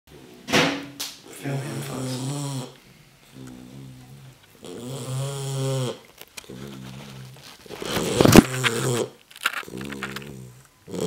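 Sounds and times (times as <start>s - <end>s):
puppy snoring: 1.7s - 11.0s.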